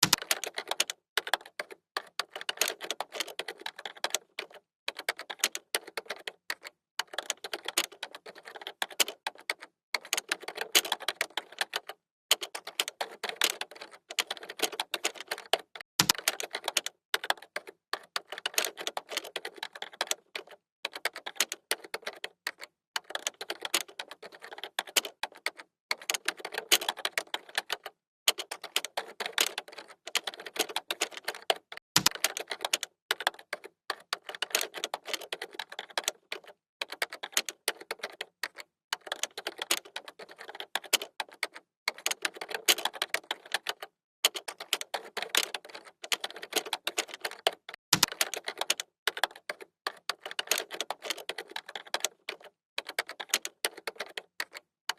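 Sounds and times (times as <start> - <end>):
fast typing on a keyboard: 0.0 - 54.9.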